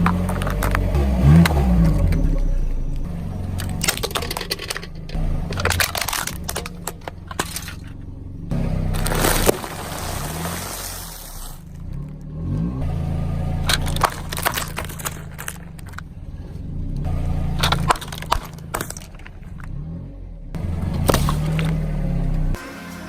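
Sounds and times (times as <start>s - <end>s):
tyres crushing fruit: 0.0s - 12.0s, 13.6s - 19.8s, 20.7s - 22.0s
car engine running: 0.0s - 23.0s.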